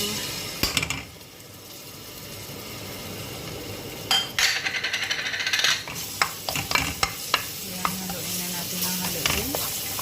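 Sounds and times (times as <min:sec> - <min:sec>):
garlic sizzling in oil: 0:00.0 - 0:10.0
oil hissing in a pan: 0:00.0 - 0:10.0.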